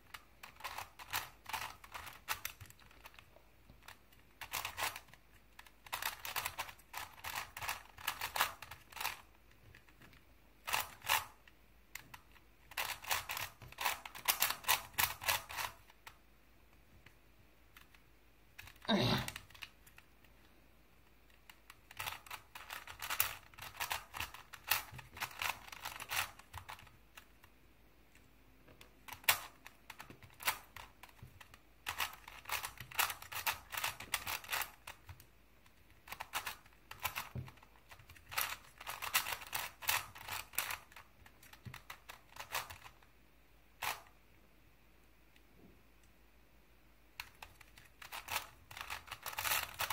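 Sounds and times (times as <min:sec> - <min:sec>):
puzzle cube clicking turns: 0:00.0 - 0:43.1, 0:43.7 - 0:44.2, 0:47.1 - 0:49.9.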